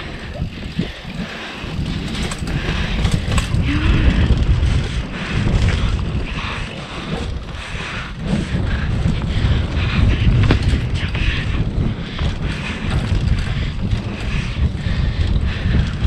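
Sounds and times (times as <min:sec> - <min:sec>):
bike clicks and rattles: 0:00.0 - 0:16.0
bike tyre noise: 0:00.0 - 0:16.0
wind rumbling over microphone: 0:00.0 - 0:16.0.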